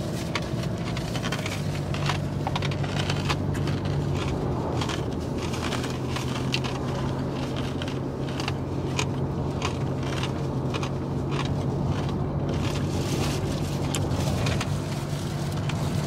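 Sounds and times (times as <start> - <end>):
crunchy food being chewed: 0.0 - 16.0.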